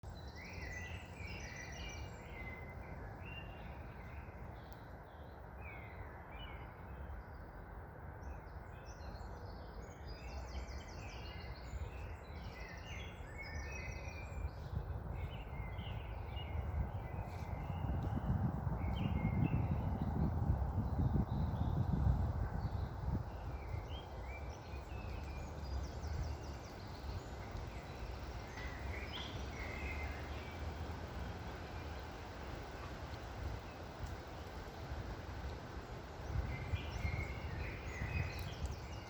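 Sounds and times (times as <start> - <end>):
songbirds chirping and trilling: 0.0 - 39.0
wind rumble: 0.0 - 39.0.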